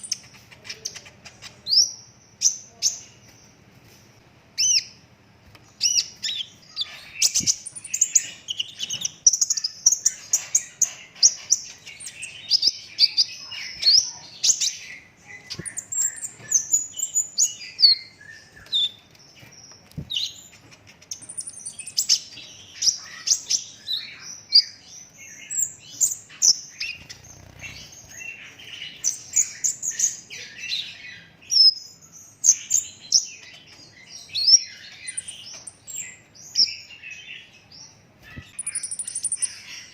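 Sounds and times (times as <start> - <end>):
sunbird singing chirps and trills: 0.0 - 3.6, 4.6 - 39.9.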